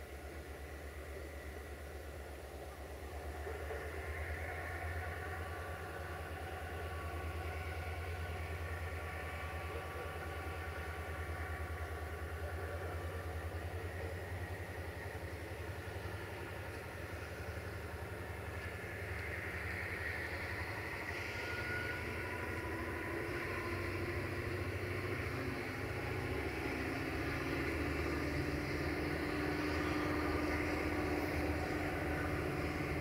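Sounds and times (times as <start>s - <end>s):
diesel locomotive engine throbbing: 0.0s - 33.0s.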